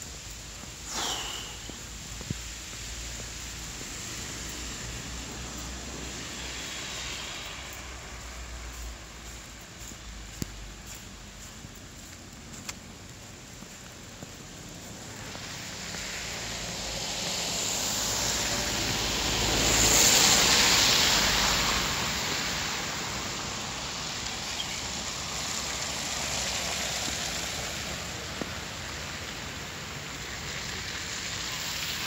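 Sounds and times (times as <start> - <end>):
vehicle tyre hiss on snow: 0.0 - 32.0.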